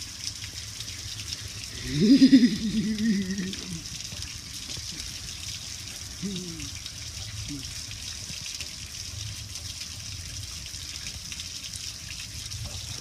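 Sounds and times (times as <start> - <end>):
hose water showering over grill: 0.0 - 13.0
water splattering onto concrete: 0.0 - 13.0.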